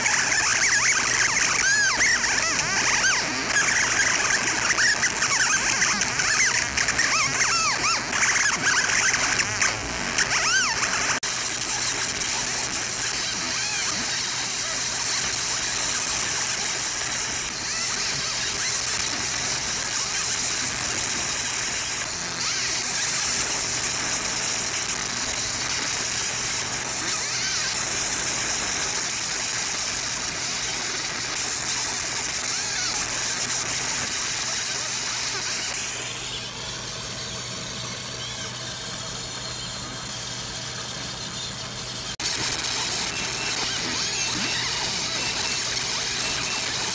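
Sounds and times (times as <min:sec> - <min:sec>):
laser hissing on metal: 0:00.0 - 0:46.9.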